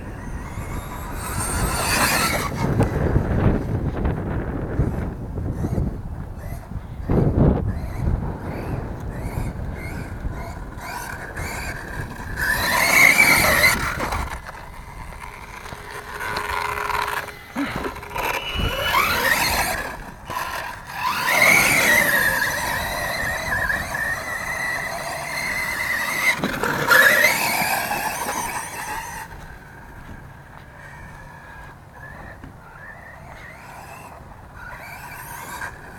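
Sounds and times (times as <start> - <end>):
electric motor whining: 0.0 - 35.9
rc truck running: 0.0 - 35.9.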